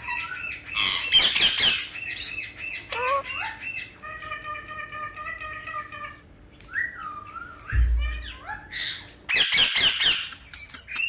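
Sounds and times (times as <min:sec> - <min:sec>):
parakeet calling: 0:00.0 - 0:11.0.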